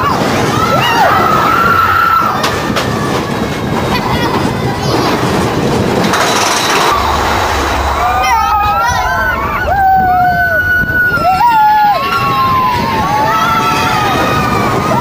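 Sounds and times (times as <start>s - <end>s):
roller coaster wheels rattling: 0.0s - 15.0s.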